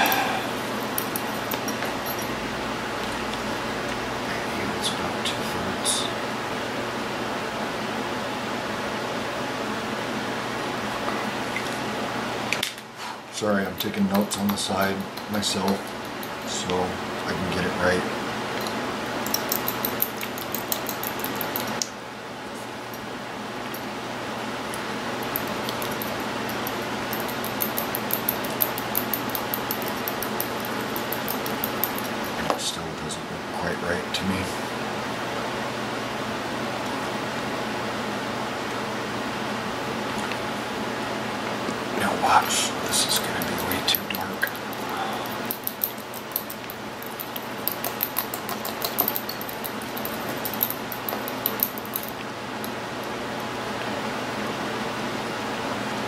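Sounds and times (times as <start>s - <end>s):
steady fan noise: 0.0s - 56.0s.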